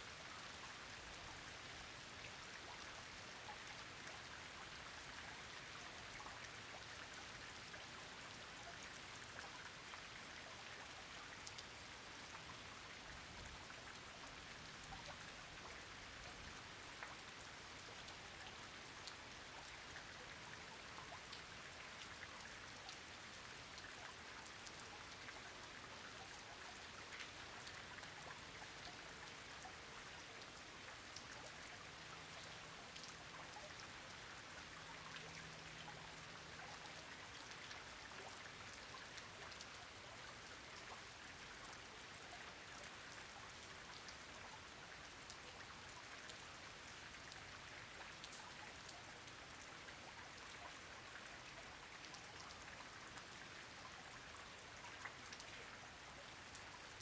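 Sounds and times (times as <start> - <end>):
rain falling: 0.2 - 57.0.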